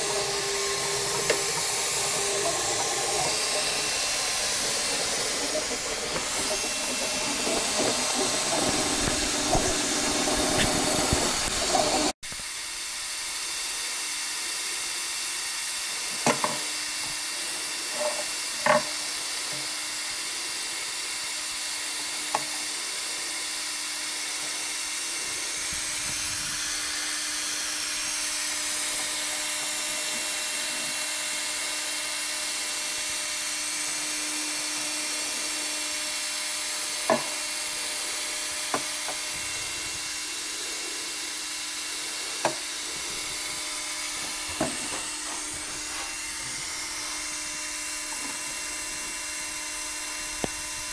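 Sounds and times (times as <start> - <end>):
cooling fans whirring: 0.0 - 50.9.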